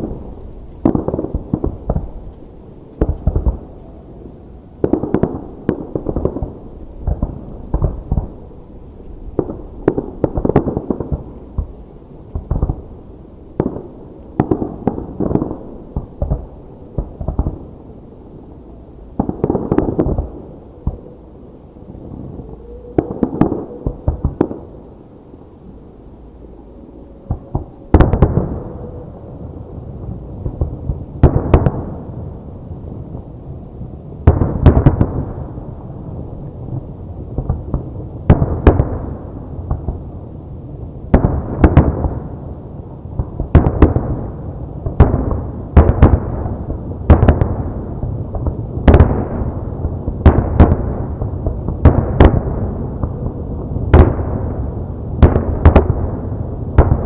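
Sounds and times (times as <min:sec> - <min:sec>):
fireworks booming and crackling: 0:00.0 - 0:18.1, 0:19.1 - 0:21.3, 0:21.9 - 0:25.0, 0:27.3 - 0:57.0.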